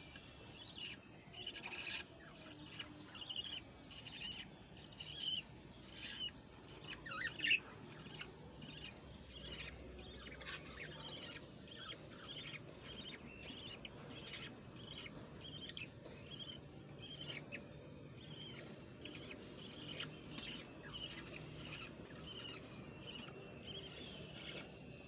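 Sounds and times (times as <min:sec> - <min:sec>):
bird chicks cheeping: 0:00.0 - 0:25.0.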